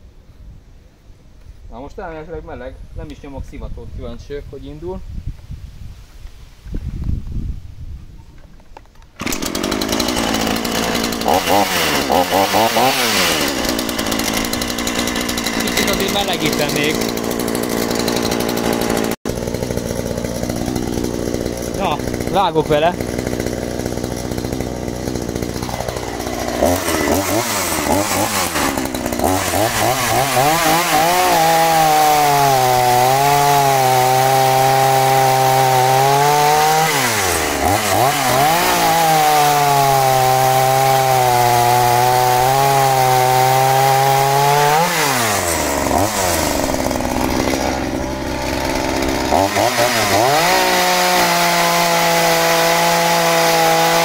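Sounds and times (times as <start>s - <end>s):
chainsaw cutting wood: 9.1s - 54.0s.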